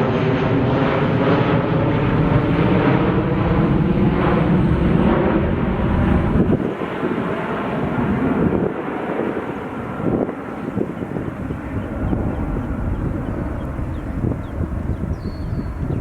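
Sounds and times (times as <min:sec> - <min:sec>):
jet engines passing by: 0:00.0 - 0:16.0.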